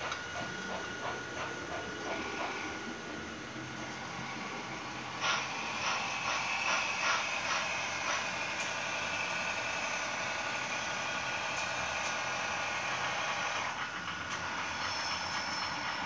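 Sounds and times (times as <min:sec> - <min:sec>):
model train whirring hum: 0:00.0 - 0:16.0.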